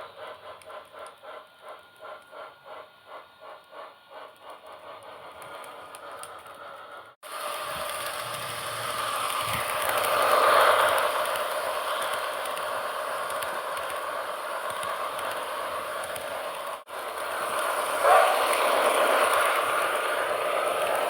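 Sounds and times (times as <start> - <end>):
model train clattering on track: 0.0 - 21.0
model train rushing rattling: 0.0 - 21.0.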